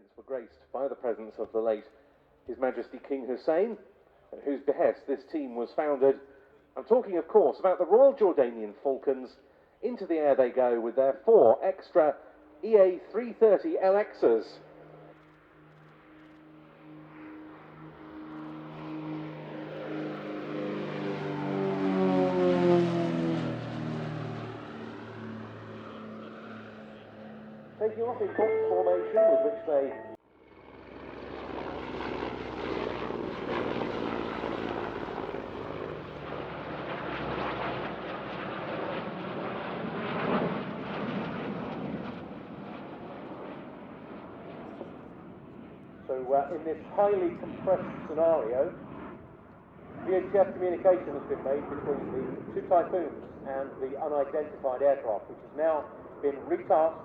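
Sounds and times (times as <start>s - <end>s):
aircraft engines roaring overhead: 0.0s - 57.0s
propeller planes droning: 0.0s - 57.0s.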